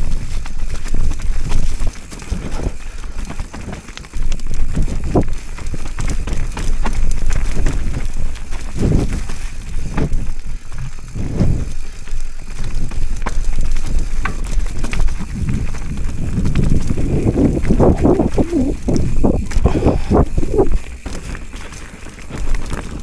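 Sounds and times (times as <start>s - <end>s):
bike knocks and rattles: 0.0s - 23.0s
bike tyres rumbling over dirt: 0.0s - 23.0s.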